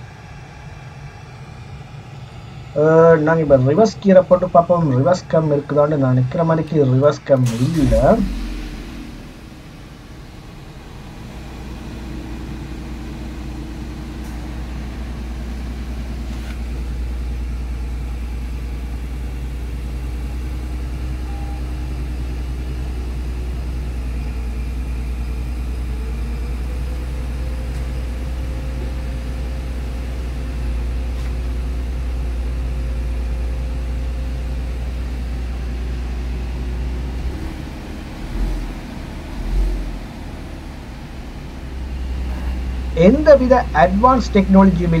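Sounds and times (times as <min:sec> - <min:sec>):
car engine running: 0:00.0 - 0:45.0
road rumble: 0:00.0 - 0:45.0.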